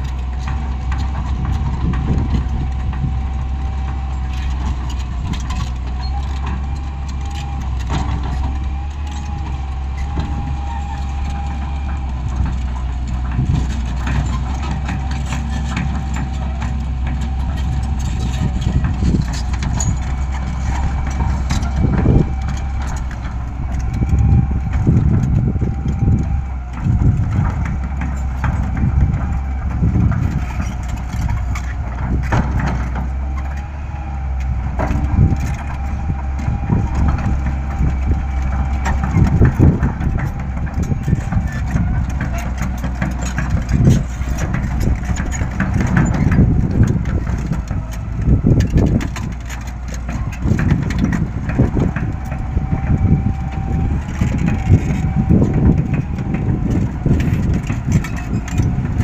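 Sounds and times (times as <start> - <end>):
diesel engine whining: 0.0 - 59.0
wood crunching and cracking: 0.9 - 59.0.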